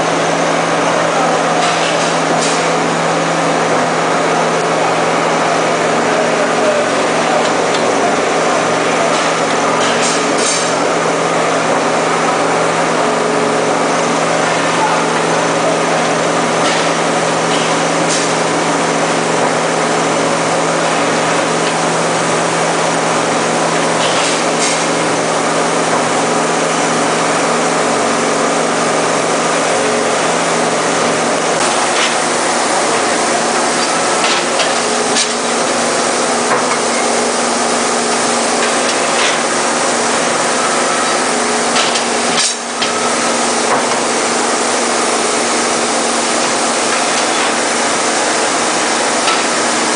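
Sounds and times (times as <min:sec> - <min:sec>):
casting machine hum: 0:00.0 - 0:49.9.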